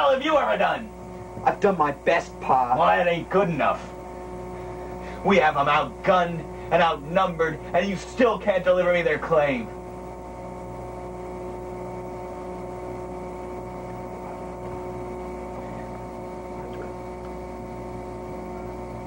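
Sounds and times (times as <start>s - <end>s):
constant hiss: 0.0s - 19.0s
steady electrical hum: 0.0s - 19.0s.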